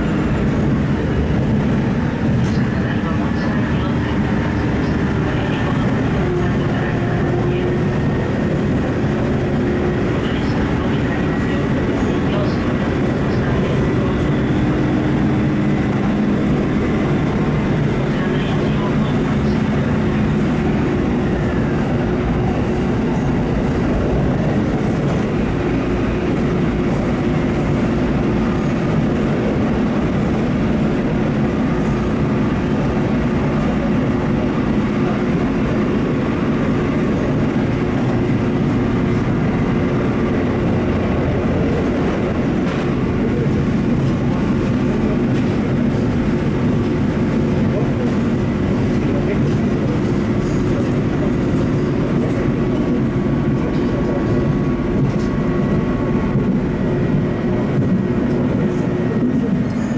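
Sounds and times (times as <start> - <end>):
diesel engine drone: 0.0 - 59.9
wheels rumbling on rail: 0.0 - 59.9.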